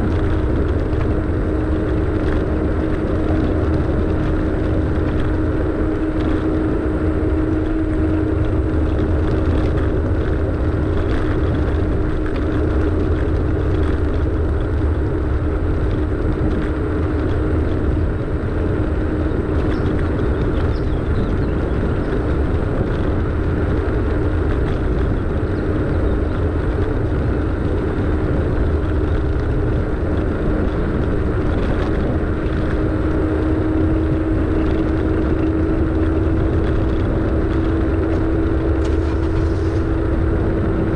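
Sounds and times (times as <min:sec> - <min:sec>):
car engine: 0:00.0 - 0:40.9
tyres on road: 0:00.0 - 0:40.9.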